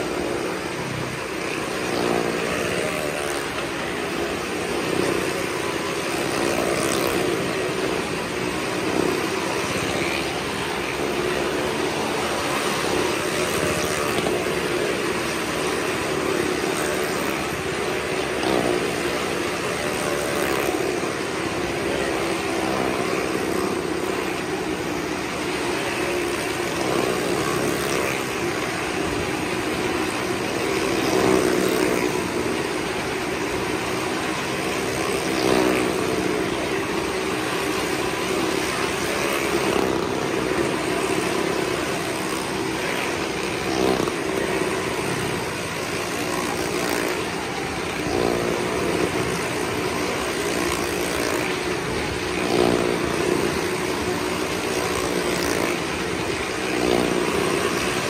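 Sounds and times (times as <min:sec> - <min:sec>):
car and motorcycle engines droning: 0:00.0 - 0:58.0.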